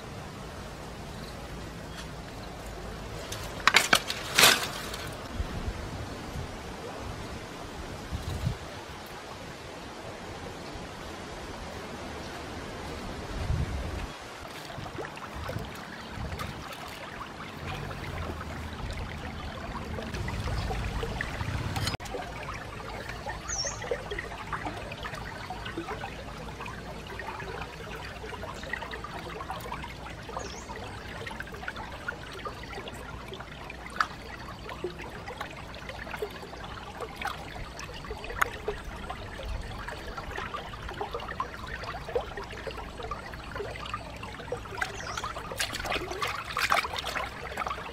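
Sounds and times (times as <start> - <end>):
splashes and drips of water: 0.0 - 47.9
stream trickling: 0.0 - 47.9.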